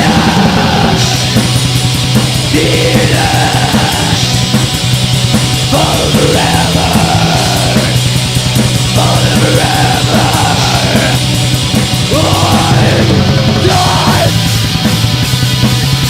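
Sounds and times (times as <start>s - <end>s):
harsh yelled vocals: 0.0s - 14.7s
distorted guitars: 0.0s - 16.0s
fast drumming: 0.0s - 16.0s.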